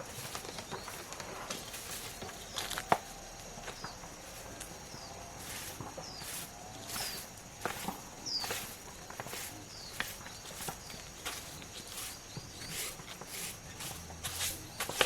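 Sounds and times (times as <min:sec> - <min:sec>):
footstep scuffs: 0:00.0 - 0:15.0
steady high hiss: 0:00.0 - 0:15.0.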